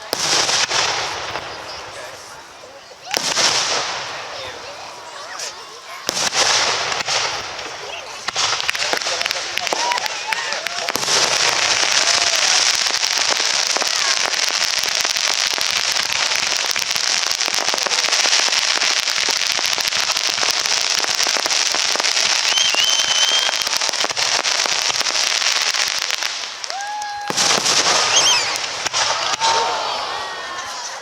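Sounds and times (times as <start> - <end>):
fireworks crackling: 0.0 - 31.0
loud firework burst: 3.0 - 30.4.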